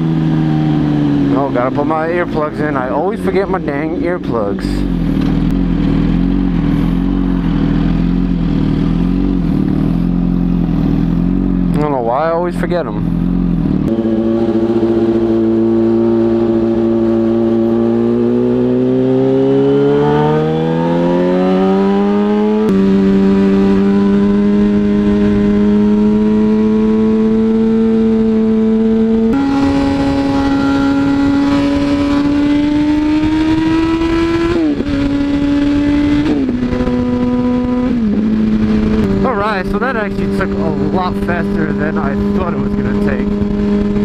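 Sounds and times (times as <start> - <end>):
motorcycle engine revving: 0.0 - 44.0
rushing wind: 0.0 - 44.0.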